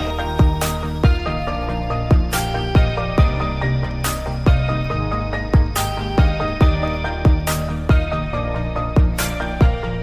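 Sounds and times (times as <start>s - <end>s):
electronic kick drum beat: 0.0s - 10.0s
sustained synth chords: 0.0s - 10.0s.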